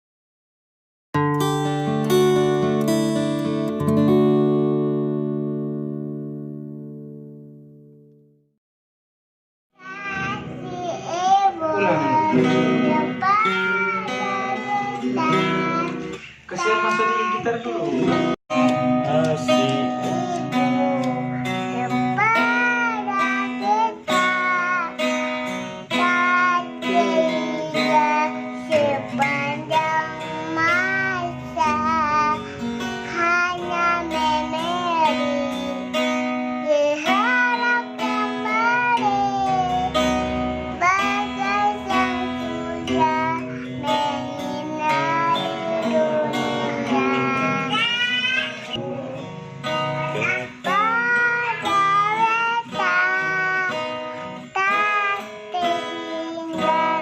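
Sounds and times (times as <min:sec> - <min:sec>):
acoustic guitar: 0:01.2 - 0:08.2, 0:09.8 - 0:57.0
child singing: 0:09.8 - 0:57.0.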